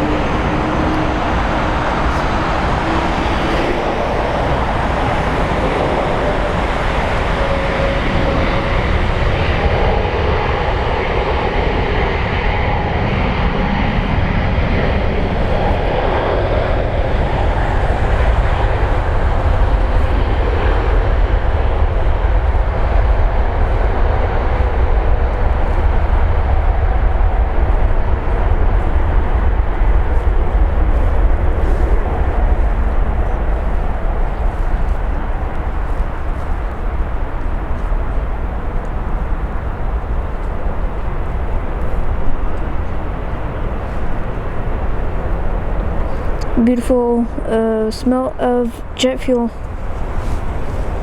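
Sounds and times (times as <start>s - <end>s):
faint engine whine: 0.0s - 51.0s
jet engines rumbling and roaring: 0.0s - 51.0s.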